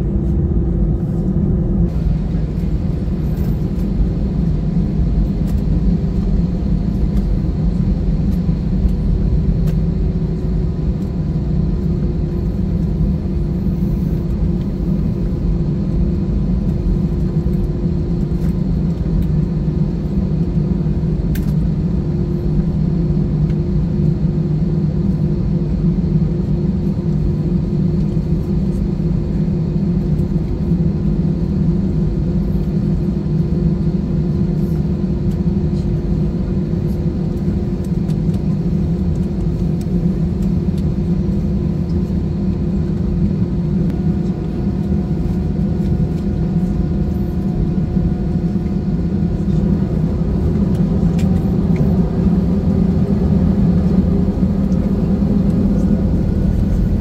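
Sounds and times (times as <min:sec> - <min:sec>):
jet engines low rumble: 0:00.0 - 0:57.0.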